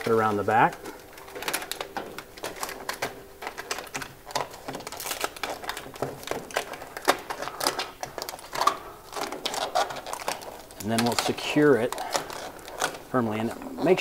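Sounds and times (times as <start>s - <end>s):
foil and duct clicks: 0.0s - 14.0s
foil tape crinkling: 0.0s - 14.0s.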